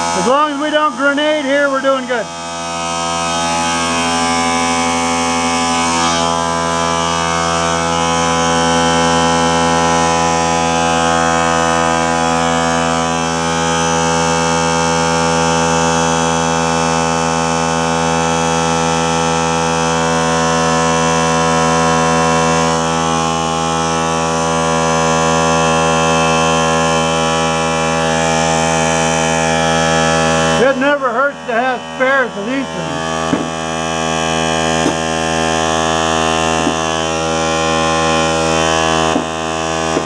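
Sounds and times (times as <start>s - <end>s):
air compressor running: 0.0s - 40.0s.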